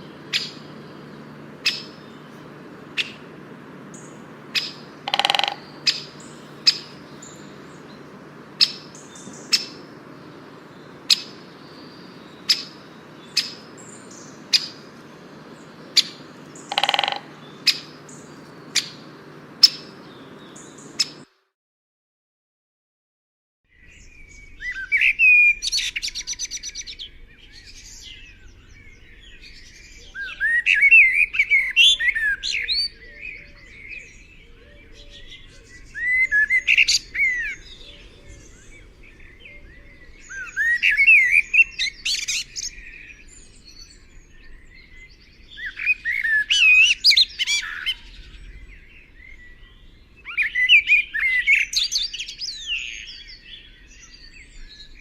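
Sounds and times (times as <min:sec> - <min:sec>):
songbird singing warbled phrase: 0:00.0 - 0:21.3, 0:23.7 - 0:55.0.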